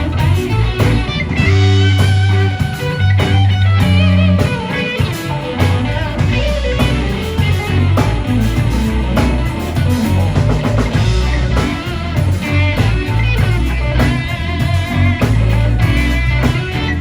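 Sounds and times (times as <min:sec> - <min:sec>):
blues-rock band playing: 0:00.0 - 0:17.0
electric guitar lead with bent notes: 0:00.0 - 0:17.0.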